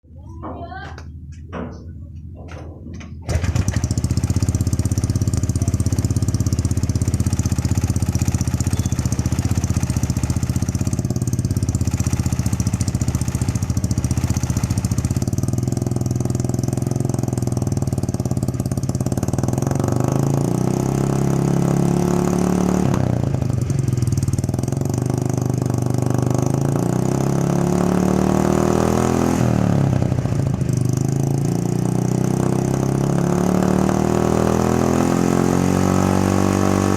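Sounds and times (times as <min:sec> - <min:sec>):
scooter engine idling and revving: 0:03.0 - 0:36.9.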